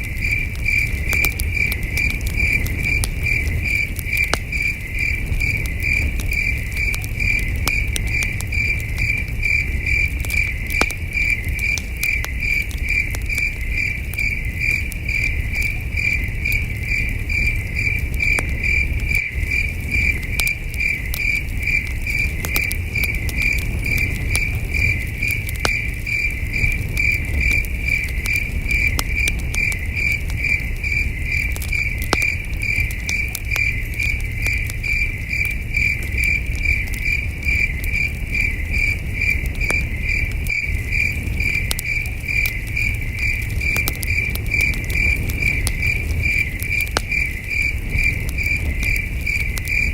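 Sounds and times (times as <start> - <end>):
campfire crackling: 0.0 - 49.9
crickets chirping: 0.0 - 49.9.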